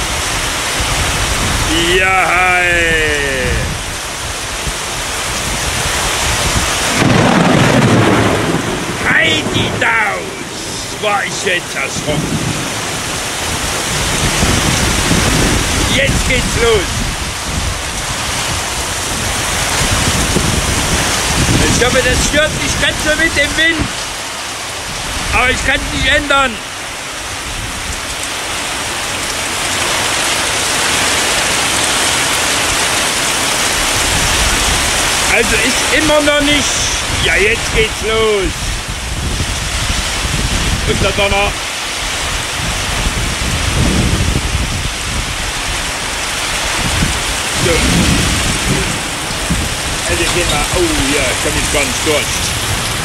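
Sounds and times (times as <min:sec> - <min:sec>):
loud thunderclap rumbling: 0:00.0 - 0:24.0, 0:29.8 - 0:53.0
heavy rain pouring: 0:00.0 - 0:53.0.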